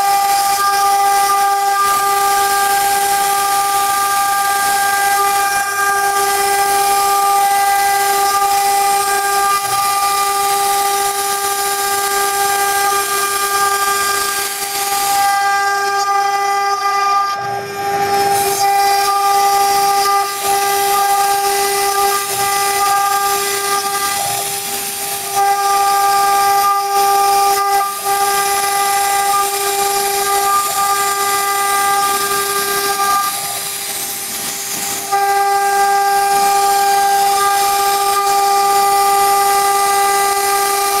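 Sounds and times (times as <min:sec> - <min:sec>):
router spindle whine: 0:00.0 - 0:41.0.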